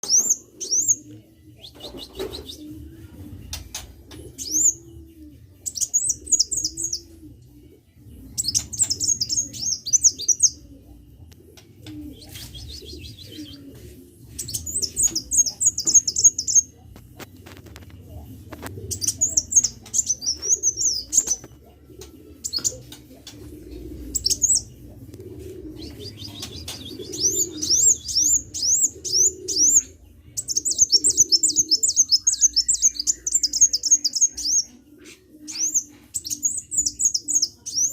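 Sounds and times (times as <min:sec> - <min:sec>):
dove cooing: 0:00.0 - 0:37.9.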